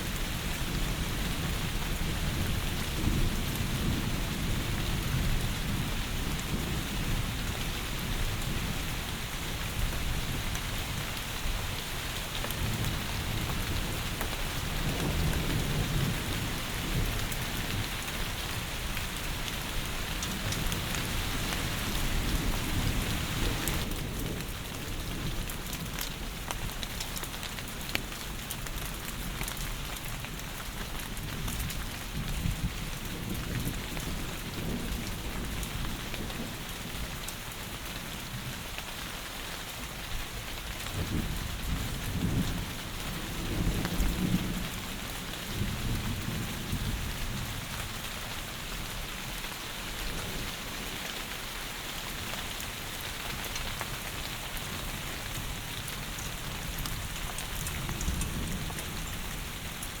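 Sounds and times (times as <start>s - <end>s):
heavy rain pouring: 0.0s - 60.0s
low rumble of thunder: 0.1s - 27.0s, 27.8s - 38.8s, 40.1s - 51.1s, 52.5s - 60.0s.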